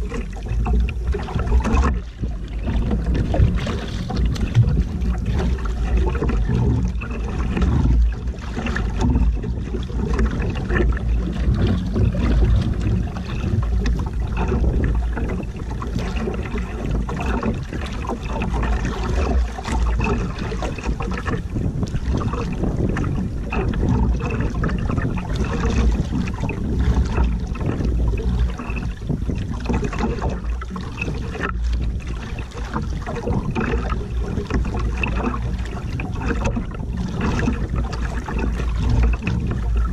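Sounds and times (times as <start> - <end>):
water splashing against hull: 0.0 - 39.9
wind buffeting microphone: 0.0 - 39.9.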